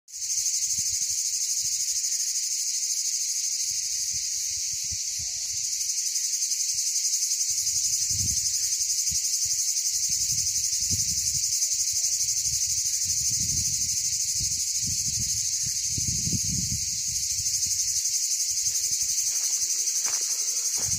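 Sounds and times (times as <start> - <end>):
cicadas shrilling: 0.1 - 20.9.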